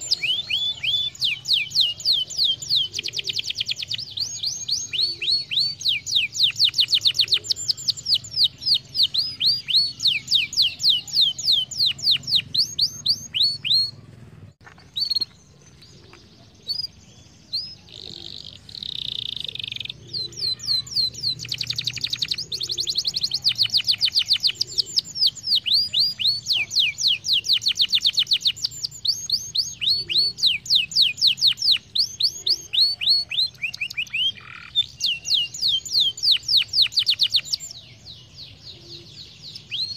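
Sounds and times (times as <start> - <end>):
canary trilling: 0.0 - 14.1, 14.8 - 39.9.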